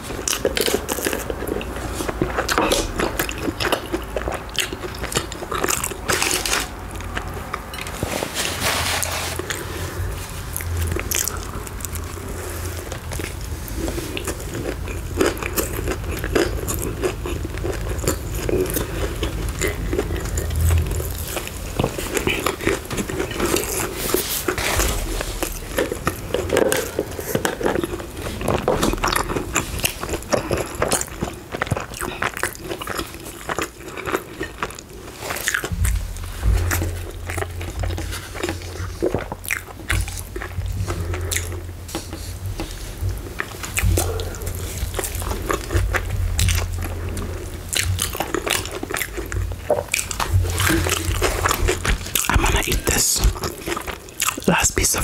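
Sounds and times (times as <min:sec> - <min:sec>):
biting and chewing food: 0:00.0 - 0:55.0
low steady rumble: 0:00.0 - 0:55.0.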